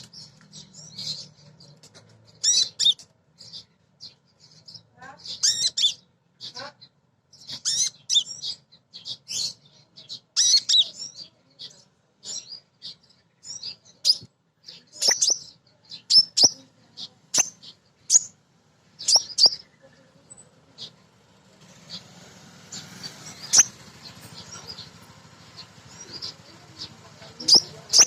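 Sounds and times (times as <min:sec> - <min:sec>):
sunbird high chirps and twittering: 0:00.0 - 0:28.0.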